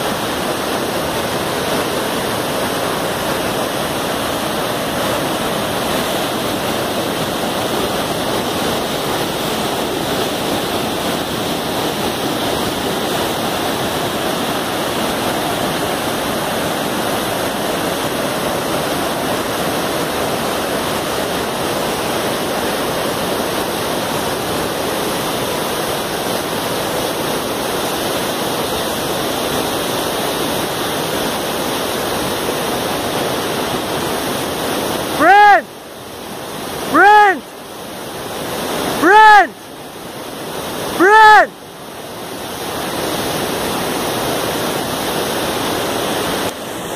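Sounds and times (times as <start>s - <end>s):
river rapids rushing: 0.0s - 46.9s.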